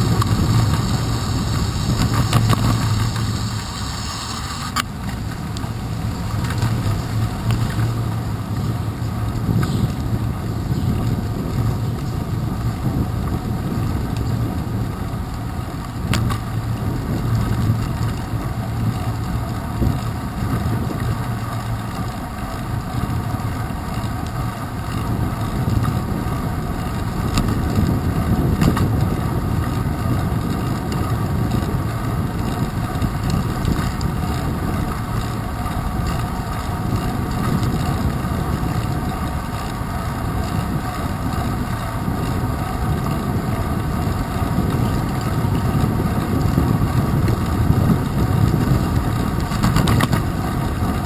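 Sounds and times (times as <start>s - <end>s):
wind on microphone: 0.0s - 21.9s, 22.7s - 51.0s
bicycle tyres on wet pavement: 0.0s - 51.0s
handlebar vibration: 0.0s - 51.0s.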